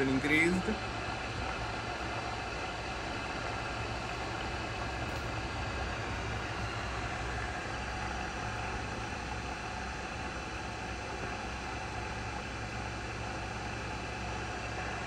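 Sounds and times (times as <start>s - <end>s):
low drone: 0.0s - 15.0s
milling machine humming: 0.0s - 15.0s.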